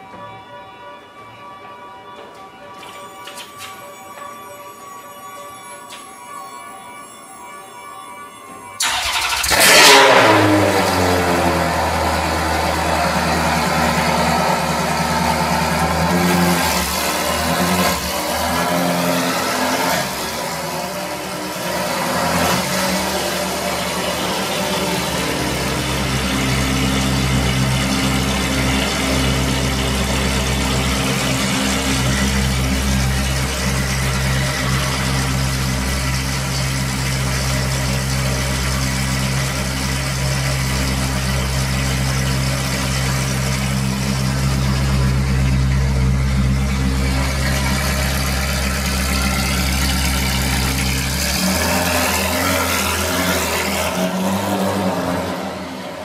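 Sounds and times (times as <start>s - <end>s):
car engine revving and idling: 8.8s - 56.0s.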